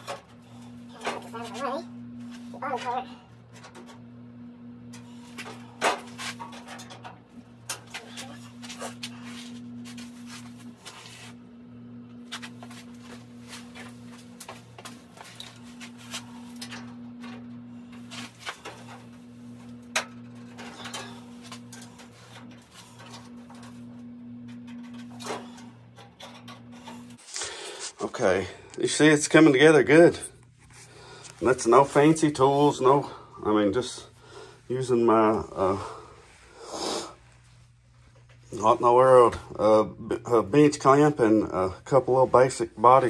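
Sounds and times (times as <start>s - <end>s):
low pulsing hum: 0.0s - 43.0s.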